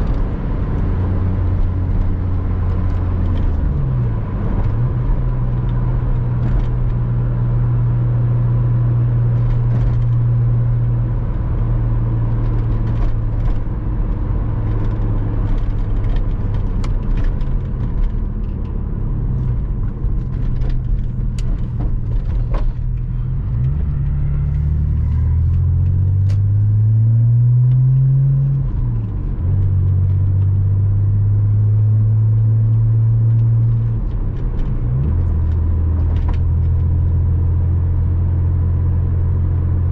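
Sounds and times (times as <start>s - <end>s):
car engine cruising and revving: 0.0s - 39.9s.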